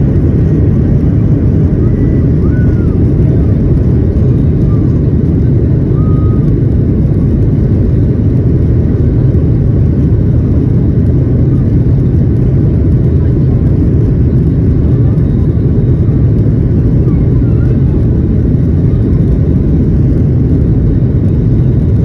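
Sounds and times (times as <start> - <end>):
airplane cabin engine noise: 0.0 - 22.0.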